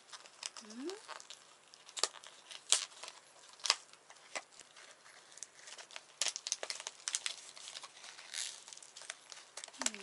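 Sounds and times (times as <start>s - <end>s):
plastic packaging crackling: 0.0s - 10.0s.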